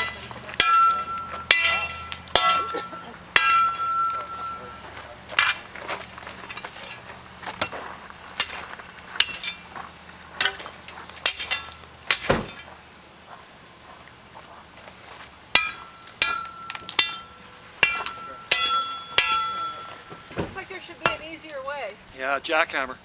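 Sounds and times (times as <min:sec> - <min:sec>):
hand tools striking metal: 0:00.0 - 0:12.8, 0:15.2 - 0:22.0.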